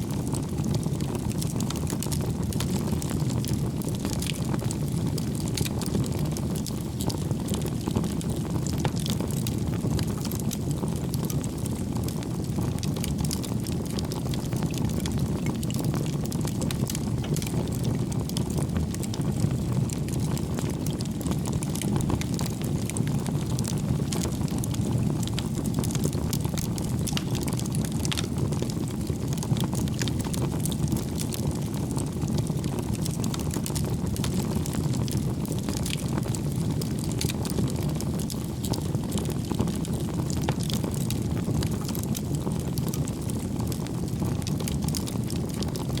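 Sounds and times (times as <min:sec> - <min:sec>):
crackles and pops of burning logs: 0:00.1 - 0:46.0
fire flames rushing: 0:03.7 - 0:45.9.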